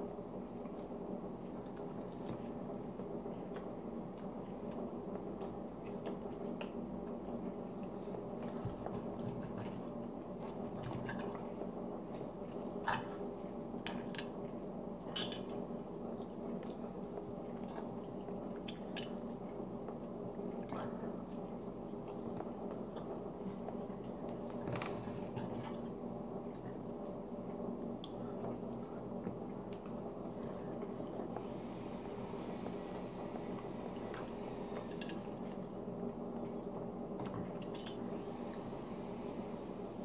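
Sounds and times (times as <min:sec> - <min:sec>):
background hum: 0:00.0 - 0:40.0.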